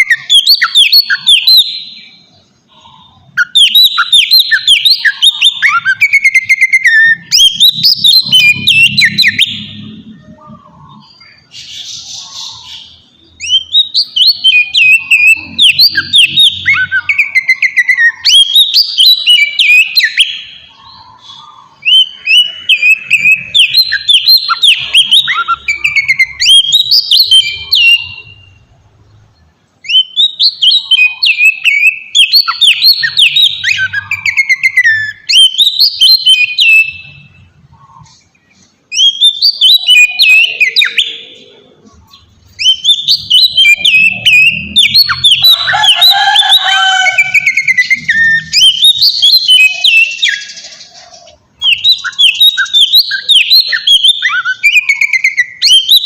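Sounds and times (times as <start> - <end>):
magpie-robin singing: 0.0 - 56.0.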